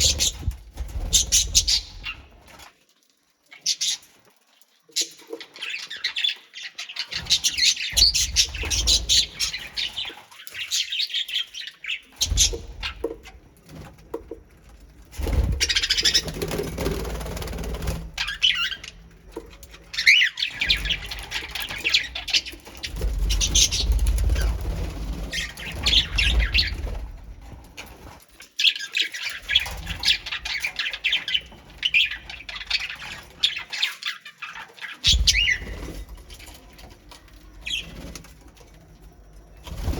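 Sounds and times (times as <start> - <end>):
birds chirping and squawking: 0.0 - 2.7, 4.9 - 39.9.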